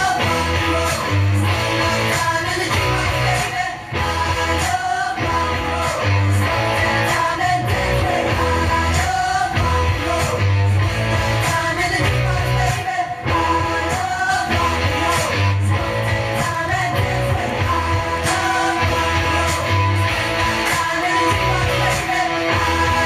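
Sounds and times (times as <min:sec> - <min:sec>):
rock song with guitar and singing: 0:00.0 - 0:23.0.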